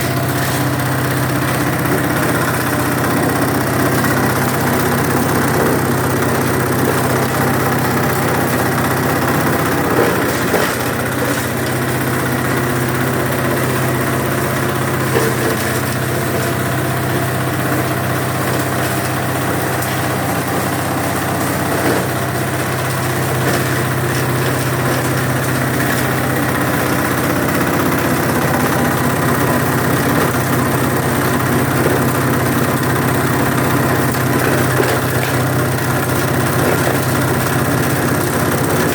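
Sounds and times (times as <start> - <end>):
shredder machine droning: 0.0 - 38.9.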